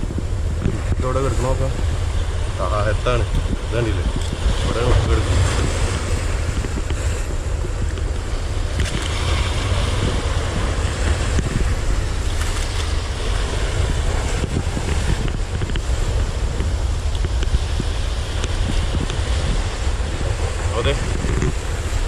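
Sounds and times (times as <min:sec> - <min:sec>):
rough sea surf: 0:00.0 - 0:22.0
wind buffeting microphone: 0:00.0 - 0:22.0.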